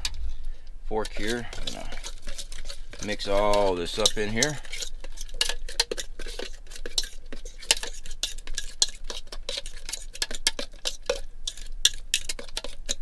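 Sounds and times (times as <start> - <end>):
fork scraping a metal pot: 1.0 - 13.0.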